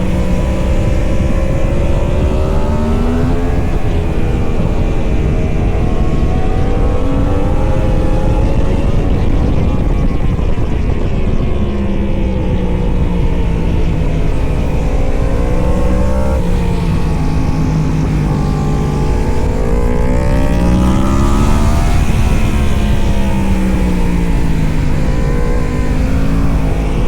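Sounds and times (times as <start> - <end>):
racing motorcycle engines at speed: 0.0 - 27.0.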